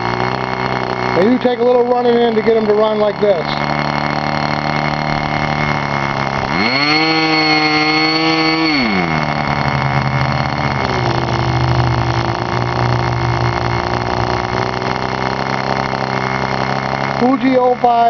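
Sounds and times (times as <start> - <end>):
small glow engine idling and revving: 0.0 - 18.0.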